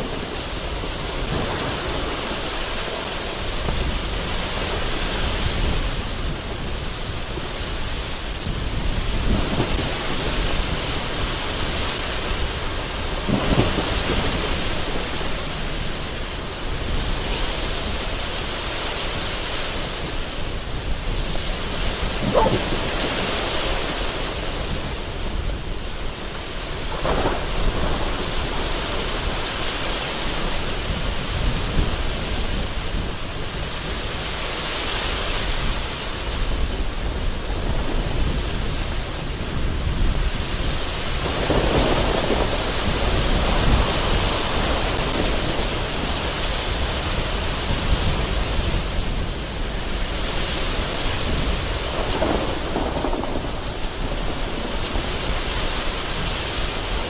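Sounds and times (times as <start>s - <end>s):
rolling thunder rumble: 0.0s - 18.1s, 19.9s - 29.6s, 36.8s - 50.2s, 50.9s - 57.0s
gusty wind: 0.0s - 57.0s
heavy rain against a window: 0.0s - 57.0s.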